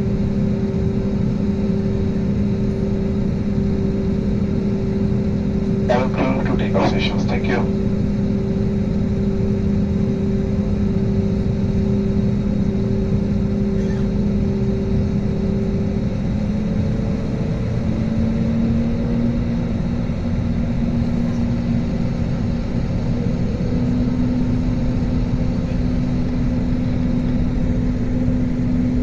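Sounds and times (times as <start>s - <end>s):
jet engines inside cabin: 0.0s - 29.0s.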